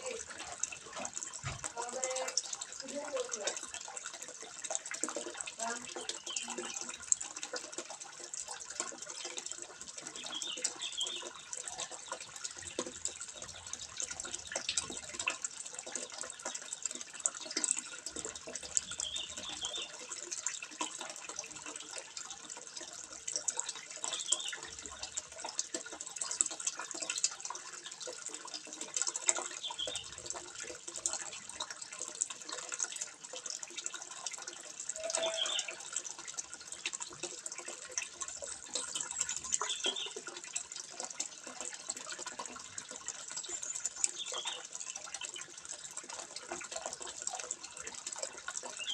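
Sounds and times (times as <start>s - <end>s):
water trickling into pond: 0.0s - 48.9s.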